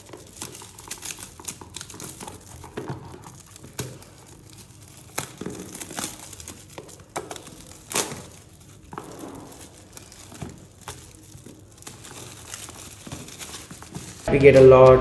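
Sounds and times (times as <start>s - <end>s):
plastic shrink-wrap crinkling: 0.0s - 14.3s.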